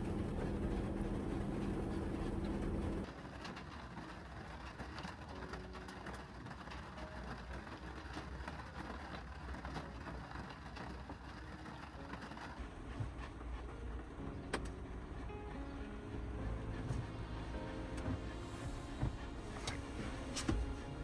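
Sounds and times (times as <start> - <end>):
heavy rain on a van: 2.5 - 21.0.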